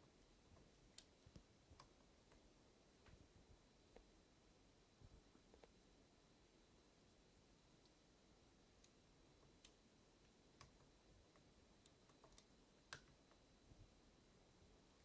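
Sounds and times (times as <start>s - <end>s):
faint ticks and clicks: 0.0s - 15.0s.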